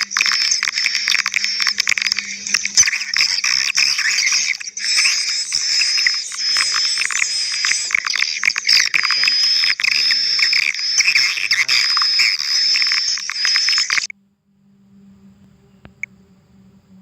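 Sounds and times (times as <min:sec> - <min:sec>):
recorded swiftlet twittering: 0:00.0 - 0:14.1.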